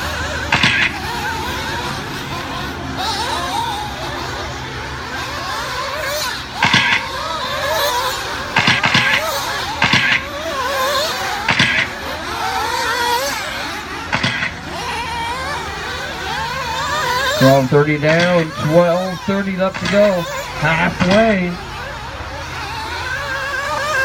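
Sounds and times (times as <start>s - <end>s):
cars passing close: 0.0s - 24.0s
rc buggy engines revving: 0.0s - 24.0s.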